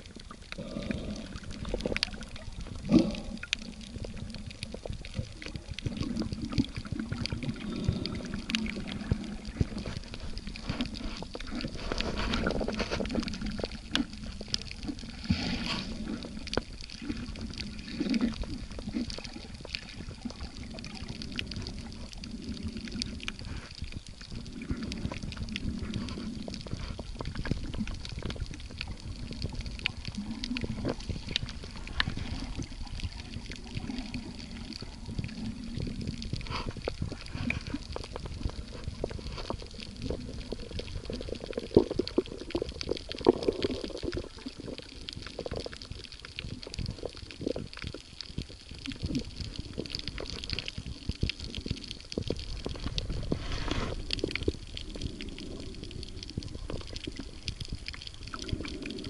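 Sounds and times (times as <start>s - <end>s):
muffled underwater gurgling: 0.0s - 59.0s
sharp underwater clicks: 0.0s - 59.0s.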